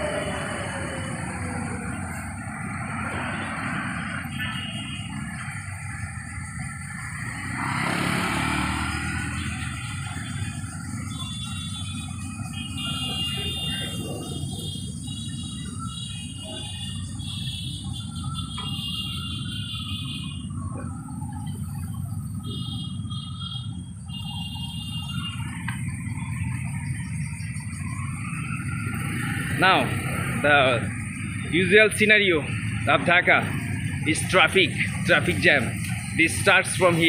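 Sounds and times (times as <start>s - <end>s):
motorcycles and rickshaws rumbling: 0.0s - 37.0s.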